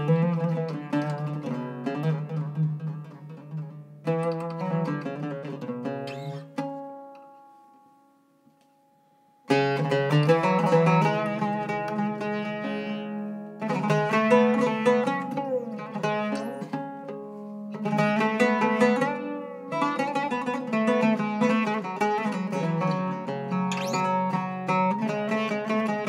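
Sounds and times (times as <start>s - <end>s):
oud plucked with a plectrum: 0.0s - 26.0s.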